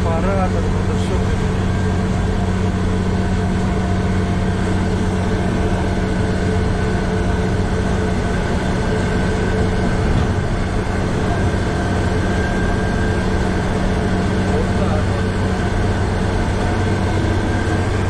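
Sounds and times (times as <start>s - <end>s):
road and wind noise: 0.0s - 18.0s
truck engine humming: 0.0s - 18.0s.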